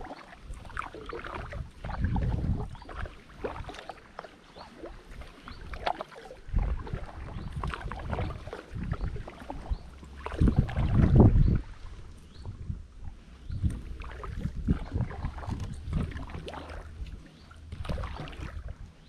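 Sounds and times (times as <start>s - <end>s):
kayak paddle strokes in water: 0.0s - 19.0s.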